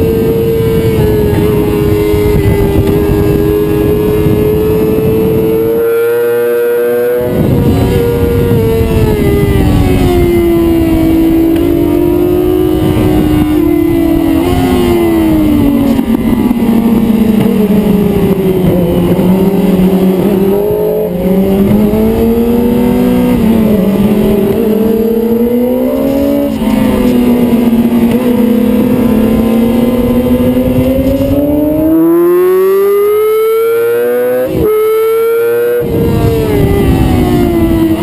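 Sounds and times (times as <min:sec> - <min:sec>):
motorcycle engine under load: 0:00.0 - 0:38.0
wind rushing over microphone: 0:00.0 - 0:38.0.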